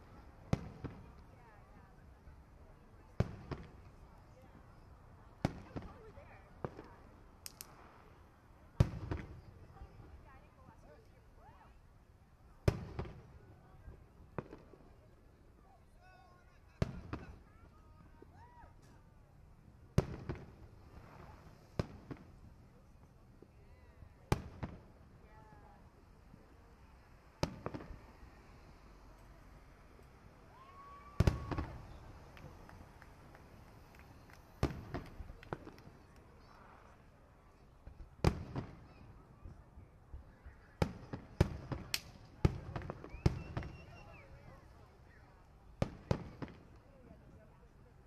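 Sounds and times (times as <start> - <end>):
faint crowd voices: 0.0 - 48.0.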